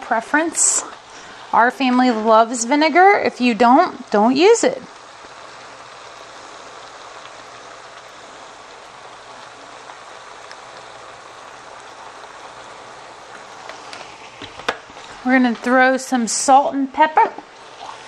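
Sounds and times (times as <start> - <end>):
food sizzling in a hot pot: 0.0 - 18.0.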